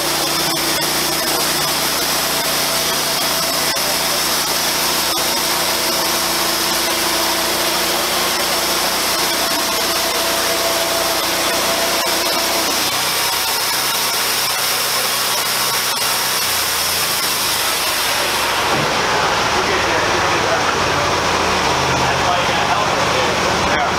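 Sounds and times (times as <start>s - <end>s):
sawmill engine running: 0.0s - 23.9s.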